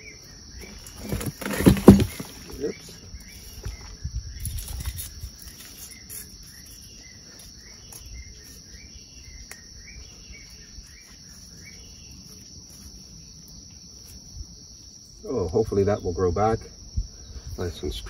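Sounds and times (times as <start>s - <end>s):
crickets chirping: 0.0s - 18.0s
lower insect call: 0.0s - 18.0s.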